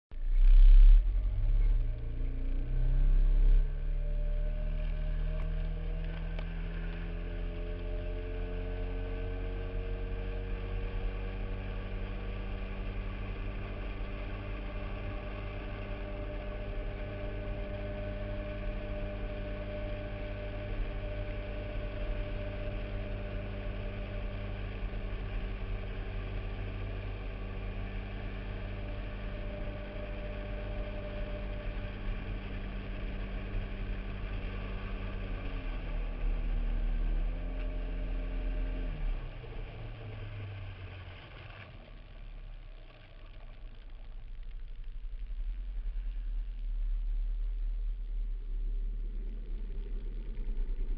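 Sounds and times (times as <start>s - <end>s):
motorboat engine running: 0.1s - 50.9s.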